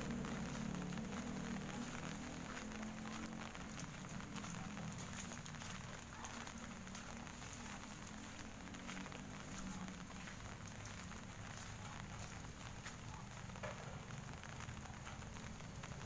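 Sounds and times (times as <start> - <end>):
rain hissing: 0.0 - 16.0
raindrops ticking: 0.0 - 16.0.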